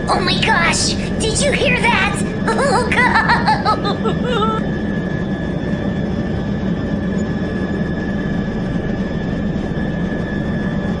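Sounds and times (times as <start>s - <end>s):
thin high whine: 0.0s - 11.0s.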